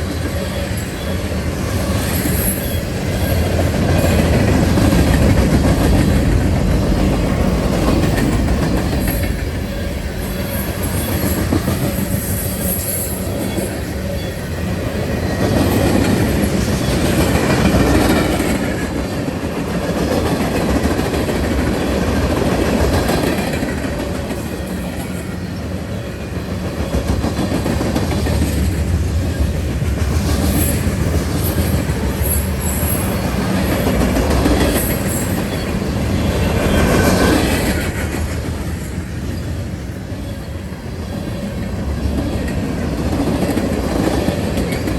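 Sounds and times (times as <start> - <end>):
train cars rumbling past: 0.0 - 44.9
train wheel squeals: 0.0 - 44.9.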